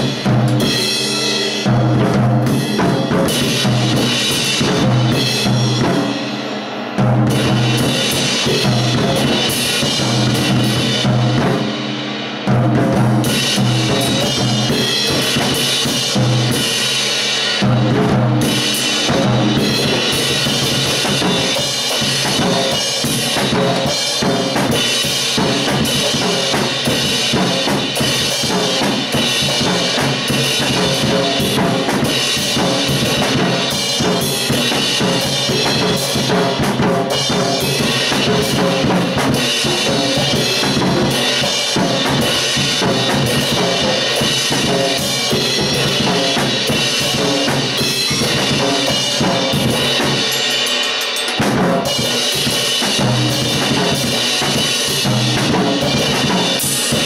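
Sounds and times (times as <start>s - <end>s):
crashing cymbals: 0.0s - 57.0s.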